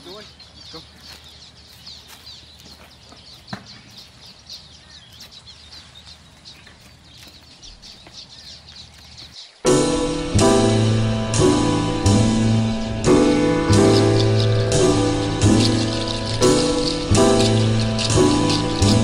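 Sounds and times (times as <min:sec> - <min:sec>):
faint outdoor background noise: 0:00.0 - 0:19.0
small birds chirping: 0:00.0 - 0:19.0.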